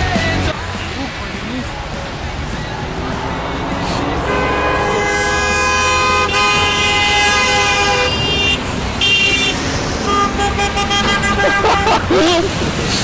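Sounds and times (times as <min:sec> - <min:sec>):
low street rumble: 0:00.0 - 0:13.0
car horns honking: 0:00.5 - 0:13.0.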